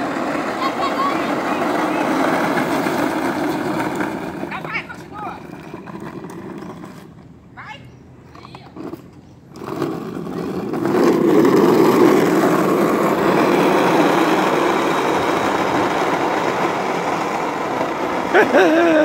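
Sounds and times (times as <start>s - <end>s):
plastic wheels rolling on asphalt: 0.0s - 19.0s.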